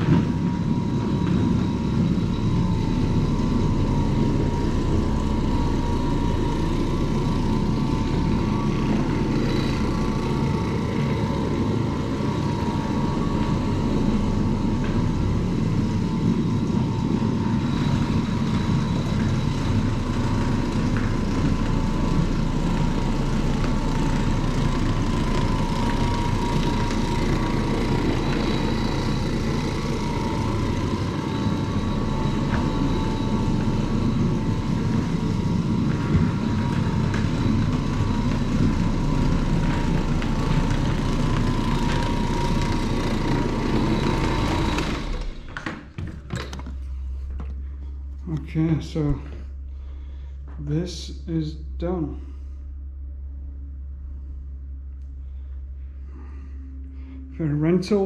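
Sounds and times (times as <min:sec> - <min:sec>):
carpet-cleaning machine running: 0:00.0 - 0:52.6.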